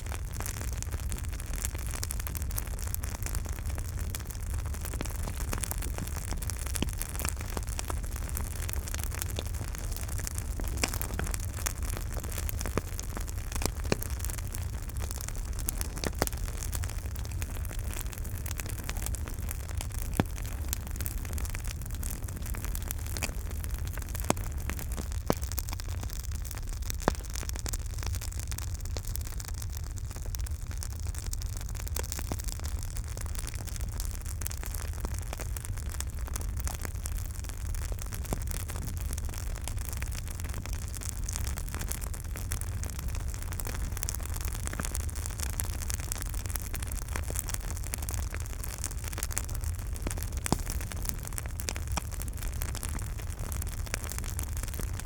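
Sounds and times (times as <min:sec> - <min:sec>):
burning wood crackling and popping: 0:00.0 - 0:55.0
campfire rumble and hiss: 0:00.0 - 0:55.0.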